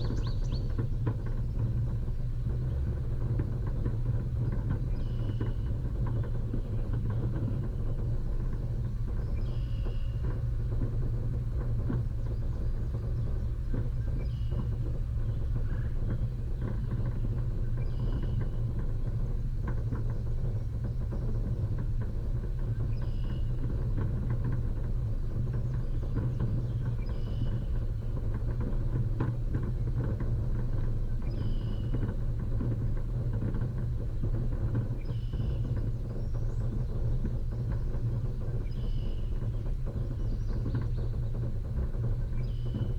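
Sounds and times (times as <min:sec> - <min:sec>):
vehicle engine and road rumble: 0:00.0 - 0:42.9.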